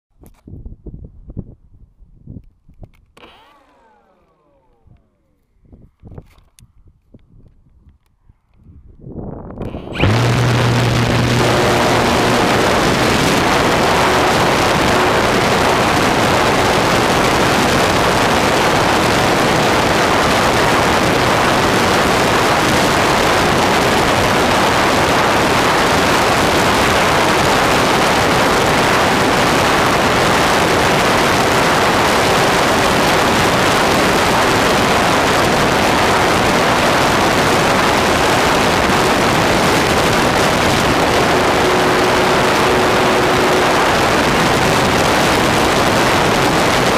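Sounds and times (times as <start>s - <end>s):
wind rushing over camera: 0.2s - 46.9s
electric motor and propeller hum: 3.2s - 5.6s, 9.6s - 46.9s.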